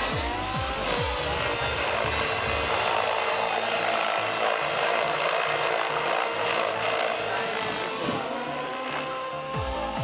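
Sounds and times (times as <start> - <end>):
model helicopter rotor whine: 0.0 - 10.0.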